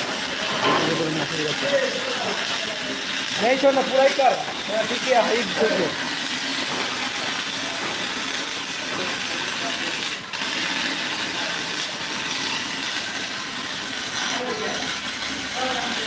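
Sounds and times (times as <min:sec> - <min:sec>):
welding arc crackling: 0:00.0 - 0:16.0.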